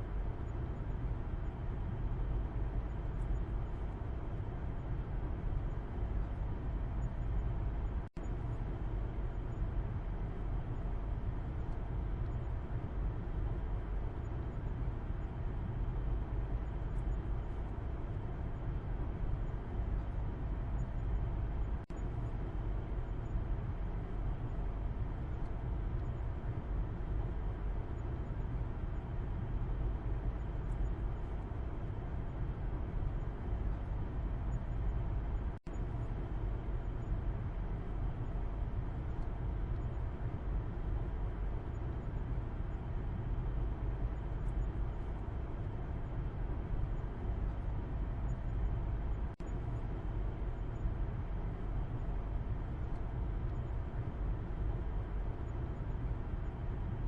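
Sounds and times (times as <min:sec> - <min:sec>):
car cabin road and engine drone: 0:00.0 - 0:57.0.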